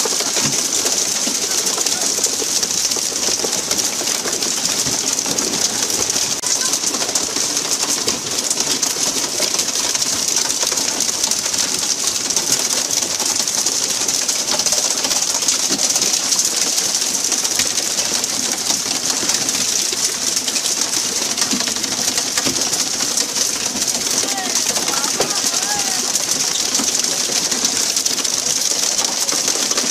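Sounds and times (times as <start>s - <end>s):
water spray and splashing: 0.0s - 29.9s.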